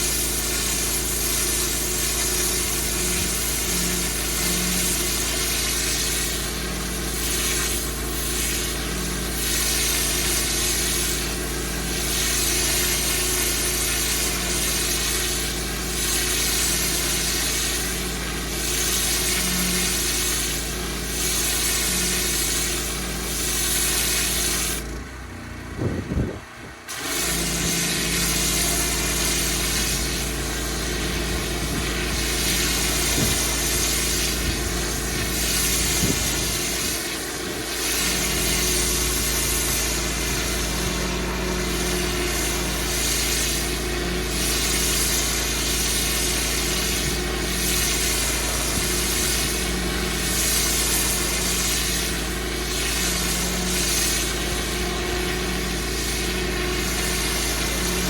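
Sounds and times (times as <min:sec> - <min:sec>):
water jet hissing on paving: 0:00.0 - 0:25.0, 0:26.8 - 0:58.0
pressure washer engine hum: 0:00.0 - 0:58.0.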